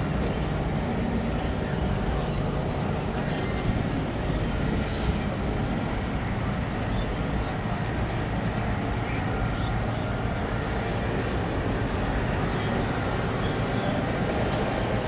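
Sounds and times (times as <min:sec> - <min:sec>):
car engines rumbling: 0:00.0 - 0:15.0
indistinct voices: 0:00.0 - 0:15.0.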